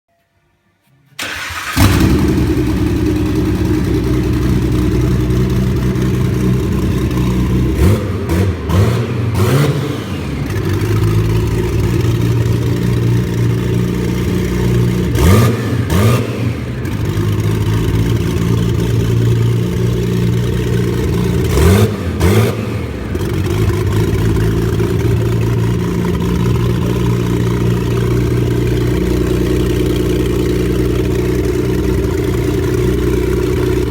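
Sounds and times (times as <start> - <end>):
car engine cranking: 1.2 - 33.9
engine revving: 1.2 - 33.9
loud car engine idling: 1.2 - 33.9.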